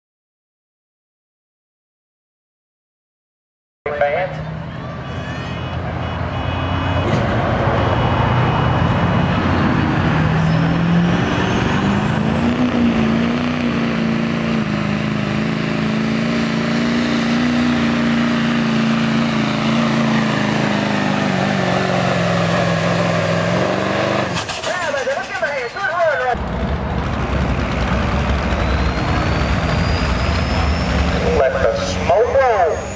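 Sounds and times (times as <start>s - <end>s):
diesel truck engine at full throttle: 3.9s - 32.9s.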